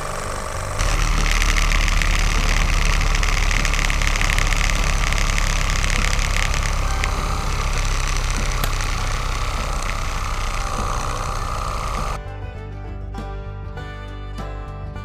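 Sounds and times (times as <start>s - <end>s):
small motor buzzing: 0.0s - 12.2s.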